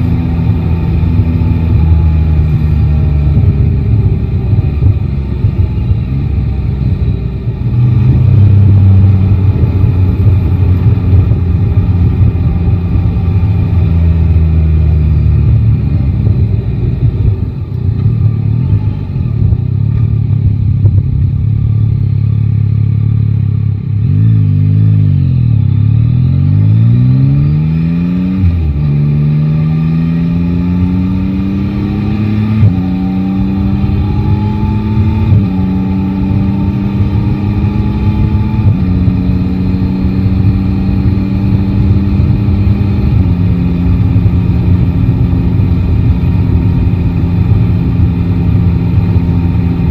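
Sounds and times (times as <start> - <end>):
motorcycle engine revving: 0.0 - 49.9
wind and road noise: 0.0 - 49.9.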